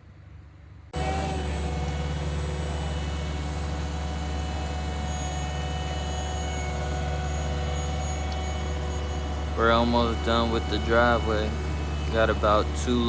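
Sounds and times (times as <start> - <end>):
heavy diesel engine droning: 1.0 - 13.0.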